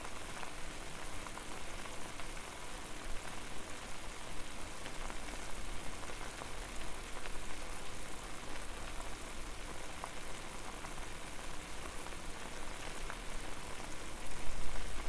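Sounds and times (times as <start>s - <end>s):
water boiling: 0.0s - 15.0s.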